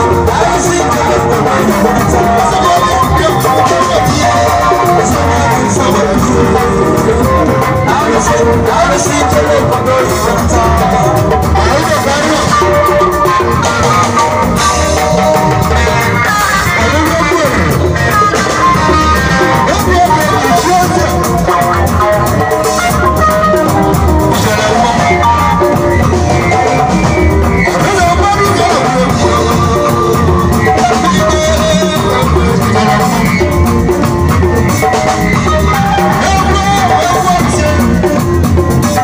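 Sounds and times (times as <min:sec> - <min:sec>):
drum kit steady beat: 0:00.0 - 0:39.0
live band music through speakers: 0:00.0 - 0:39.0.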